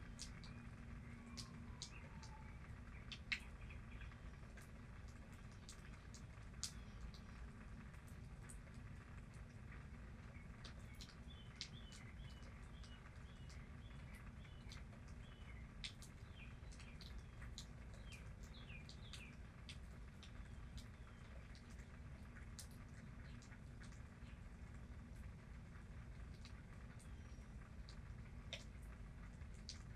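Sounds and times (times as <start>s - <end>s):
light ticks: 0.1s - 29.9s.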